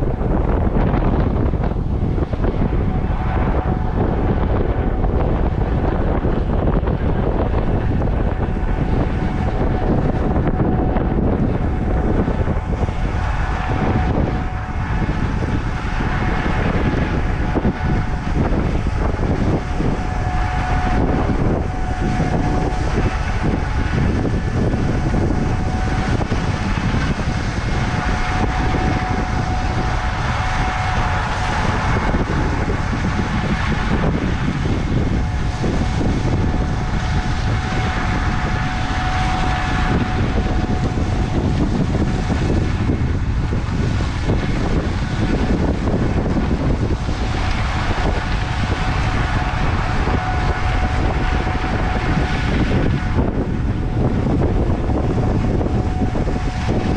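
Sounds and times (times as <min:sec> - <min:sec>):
combine harvester droning: 0:00.0 - 0:56.9
wind buffeting microphone: 0:00.0 - 0:56.9.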